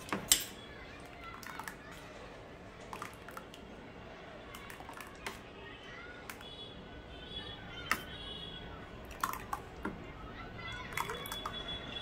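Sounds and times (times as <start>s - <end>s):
spoon stirring wet batter: 0.0s - 5.5s, 7.5s - 11.8s.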